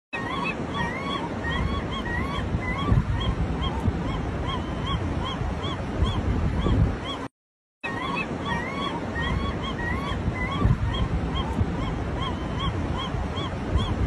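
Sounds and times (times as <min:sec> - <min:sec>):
wind noise on microphone: 0:00.2 - 0:07.3, 0:07.9 - 0:14.0
bird rising calls: 0:00.2 - 0:14.0.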